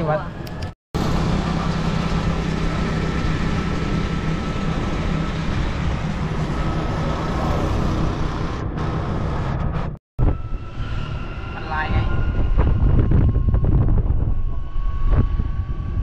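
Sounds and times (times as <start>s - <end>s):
tuk-tuk engine drone: 0.0s - 16.0s
wind and road noise: 0.0s - 16.0s.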